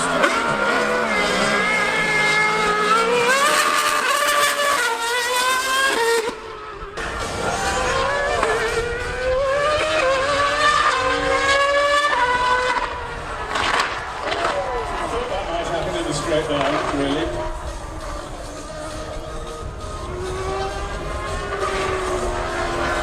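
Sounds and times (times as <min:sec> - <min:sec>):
racing car engine at full throttle: 0:00.0 - 0:23.0.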